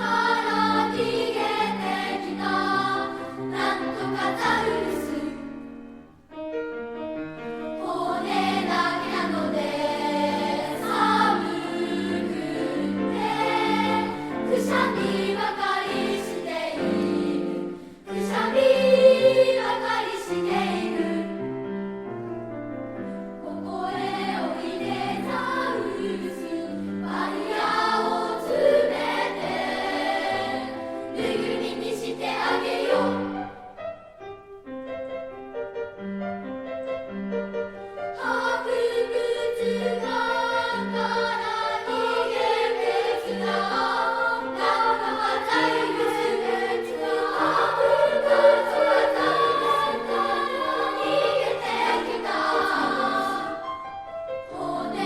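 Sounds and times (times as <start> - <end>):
children's choir singing: 0.0 - 6.0, 7.6 - 21.5, 23.4 - 33.8, 38.1 - 55.0
piano accompaniment: 0.0 - 55.0.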